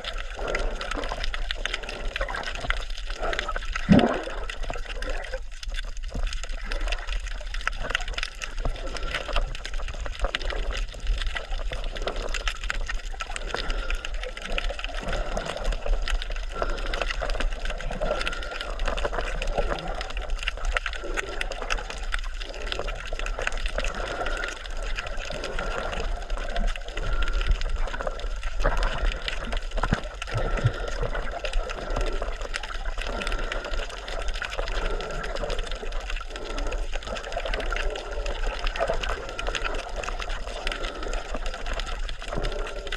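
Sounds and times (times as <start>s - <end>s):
water churning and gurgling: 0.0s - 42.9s.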